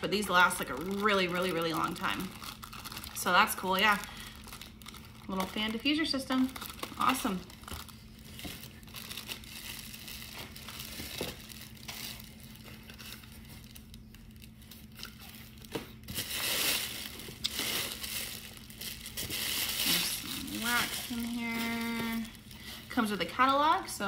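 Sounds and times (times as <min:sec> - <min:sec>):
packaging crinkling: 0:00.0 - 0:22.9.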